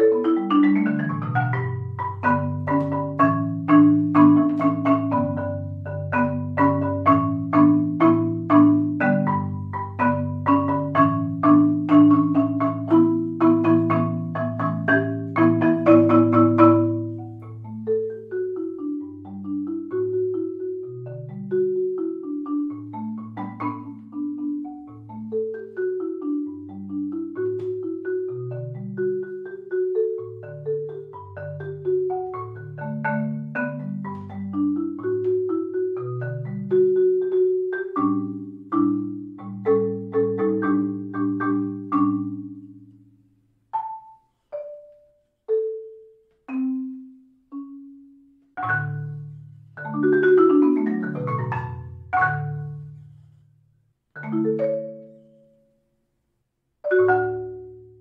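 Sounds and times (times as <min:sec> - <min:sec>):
marimba music: 0:00.0 - 0:53.4, 0:54.2 - 0:55.8, 0:56.8 - 0:58.0.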